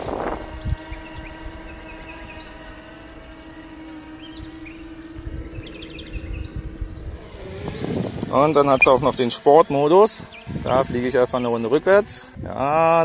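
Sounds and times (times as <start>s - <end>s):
quadcopter propellers buzzing: 0.0s - 13.0s.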